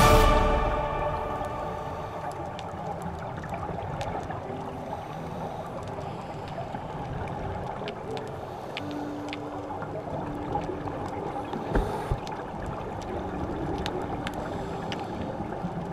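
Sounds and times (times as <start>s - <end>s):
muffled rush of water: 0.0s - 15.9s.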